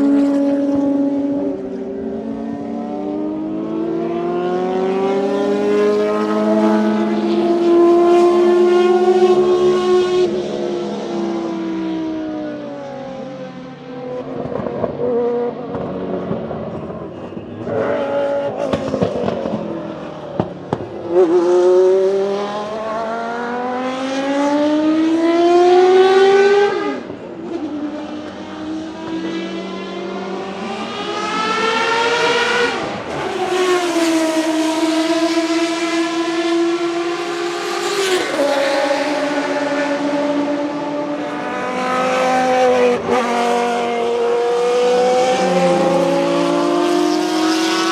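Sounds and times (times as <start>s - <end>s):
race car engines revving: 0.0s - 47.9s.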